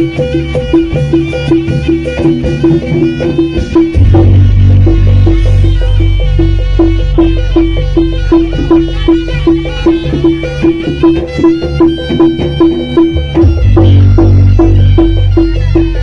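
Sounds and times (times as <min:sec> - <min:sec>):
deep drums: 0:00.0 - 0:16.0
pitched percussion pulse: 0:00.0 - 0:16.0
reedy wind instrument melody: 0:00.0 - 0:16.0.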